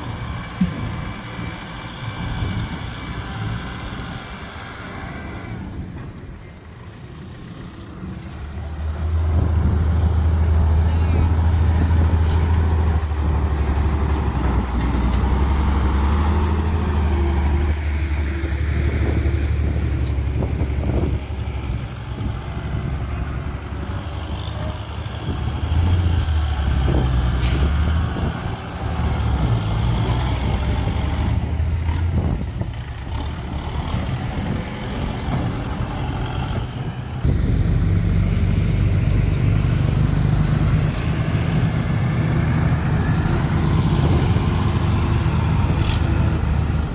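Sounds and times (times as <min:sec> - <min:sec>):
heavy diesel engines: 0:00.0 - 0:46.9.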